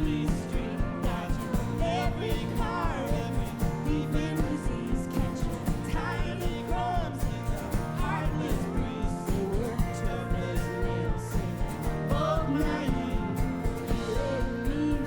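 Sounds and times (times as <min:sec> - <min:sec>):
bass: 0:00.0 - 0:15.0
drums keeping a steady beat: 0:00.0 - 0:15.0
guitars: 0:00.0 - 0:15.0
person singing lead vocal: 0:00.0 - 0:15.0.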